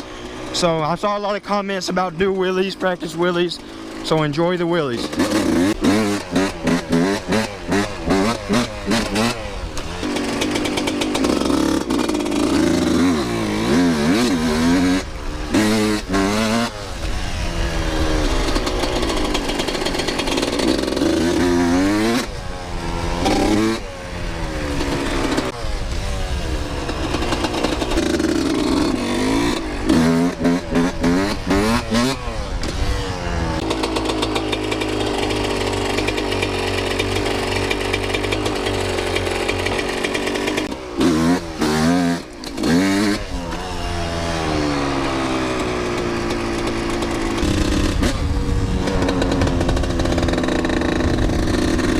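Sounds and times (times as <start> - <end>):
two-stroke dirt bike engine revving: 0.0 - 51.9.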